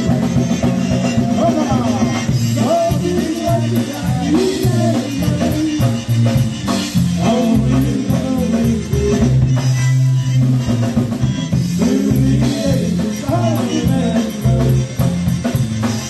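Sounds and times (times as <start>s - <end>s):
drum kit: 0.0s - 16.0s
live band playing: 0.0s - 16.0s
low bass line: 0.0s - 16.0s.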